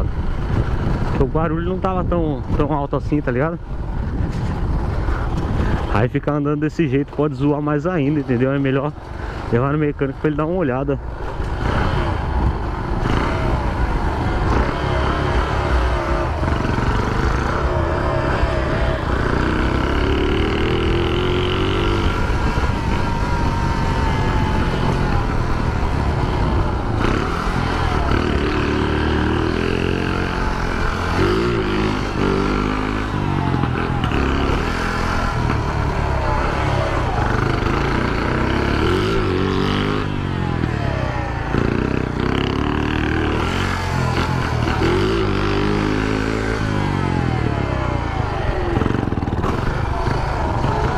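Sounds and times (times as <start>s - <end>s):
moped engine revving: 7.6s - 50.9s.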